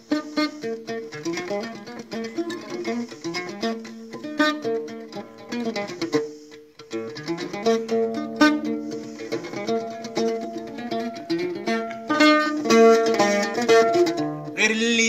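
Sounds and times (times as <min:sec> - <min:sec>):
mandole picked with a plectrum: 0:00.0 - 0:15.0.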